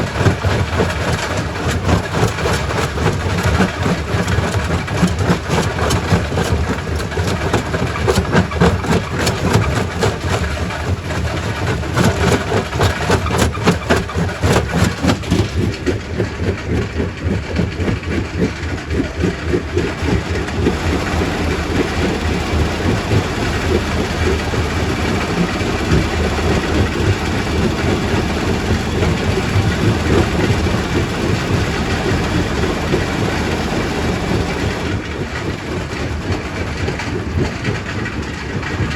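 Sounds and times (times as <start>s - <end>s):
heavy machine rumble: 0.0s - 16.4s, 19.6s - 38.9s.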